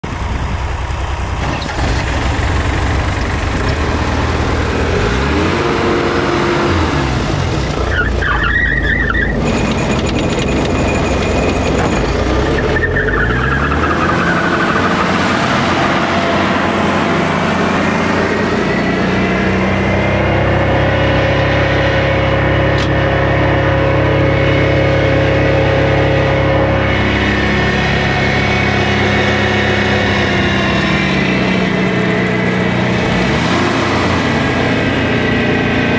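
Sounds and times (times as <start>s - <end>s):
wood chipper engine running: 0.0s - 35.9s
high whine: 2.4s - 35.9s.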